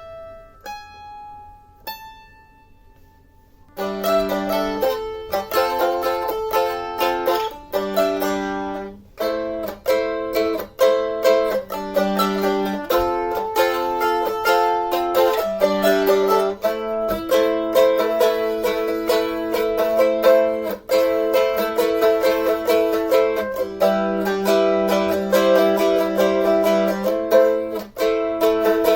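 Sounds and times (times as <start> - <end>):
mandolin plucked notes and chords: 0.0 - 28.9.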